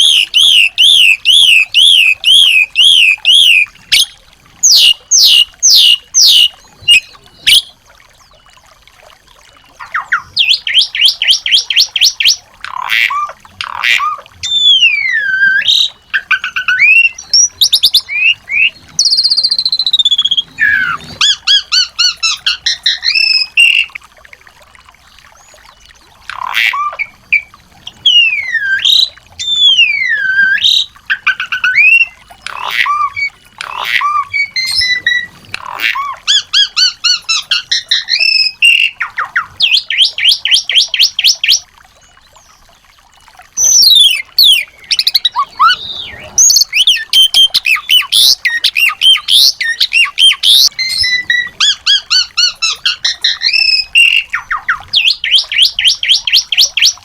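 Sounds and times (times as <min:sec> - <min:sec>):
songbirds singing: 0:00.0 - 0:24.0, 0:24.9 - 0:57.0.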